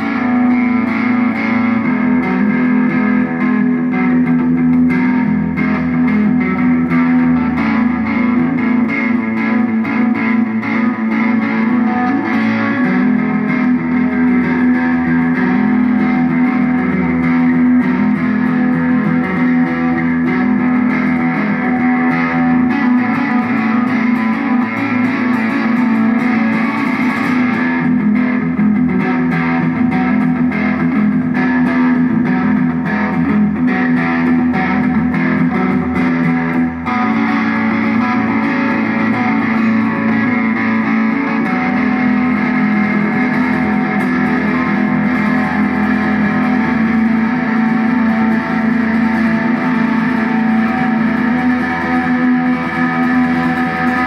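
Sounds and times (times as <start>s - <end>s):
distorted electric guitar music: 0.0s - 54.0s.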